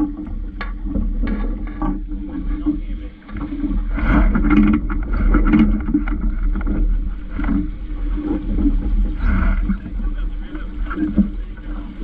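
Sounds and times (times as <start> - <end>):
water slapping against hull: 0.0 - 12.0
wind rumble on microphone: 0.0 - 12.0.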